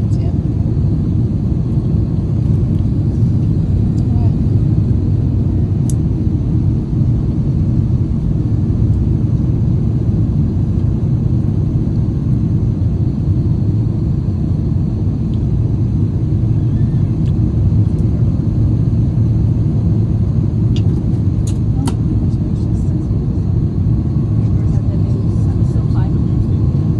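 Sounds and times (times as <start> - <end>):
airliner engine rumble: 0.0 - 26.9.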